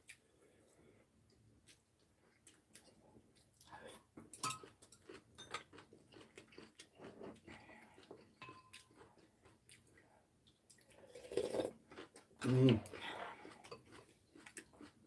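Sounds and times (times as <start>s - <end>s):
chewing and mouth noises: 1.3s - 15.0s.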